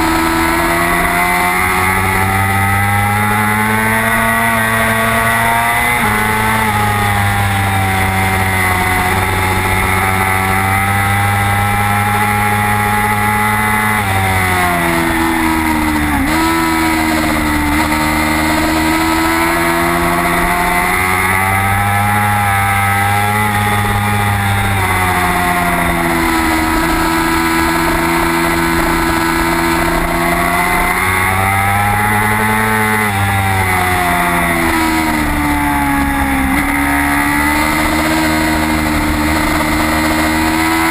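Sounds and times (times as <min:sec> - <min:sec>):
racing motorcycle engine: 0:00.0 - 0:40.9
wind noise: 0:00.0 - 0:40.9.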